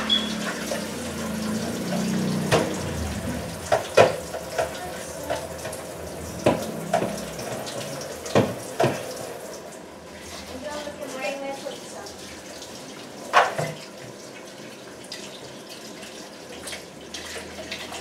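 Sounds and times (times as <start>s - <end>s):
chicken simmering in a pan: 0.0s - 18.0s.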